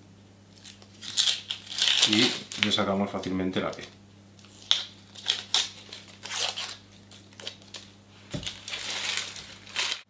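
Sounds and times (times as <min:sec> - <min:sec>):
onion skin crinkling and tearing: 0:00.5 - 0:02.9, 0:03.6 - 0:10.0.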